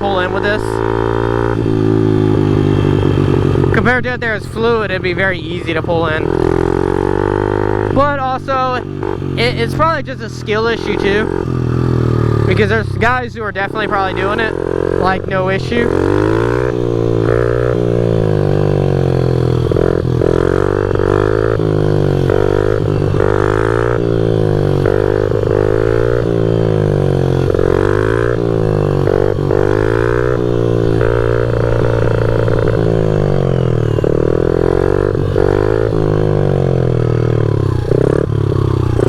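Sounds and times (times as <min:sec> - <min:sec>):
small motorbike engine revving: 0:00.0 - 0:39.0.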